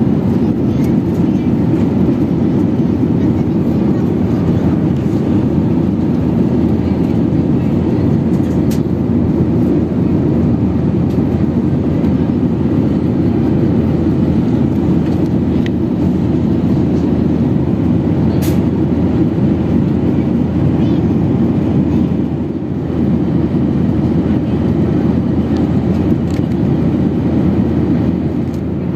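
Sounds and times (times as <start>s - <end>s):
airliner cabin engine rush: 0.0s - 28.9s.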